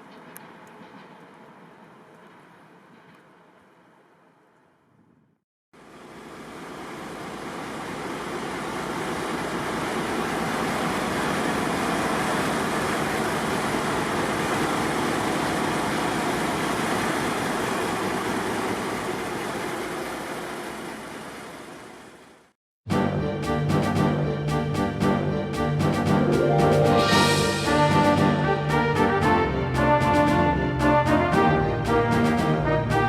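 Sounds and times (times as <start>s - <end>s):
diesel train passing: 0.0s - 4.2s, 5.8s - 22.4s, 23.6s - 33.0s.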